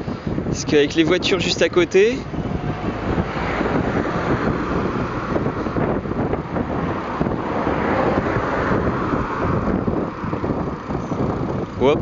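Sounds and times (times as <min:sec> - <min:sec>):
cars passing: 0:00.0 - 0:12.0
wind on microphone: 0:00.0 - 0:12.0.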